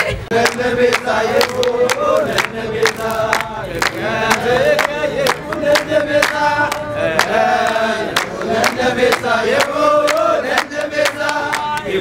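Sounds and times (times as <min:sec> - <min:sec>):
group singing a festive chant: 0:00.0 - 0:12.0
hand claps: 0:00.0 - 0:12.0.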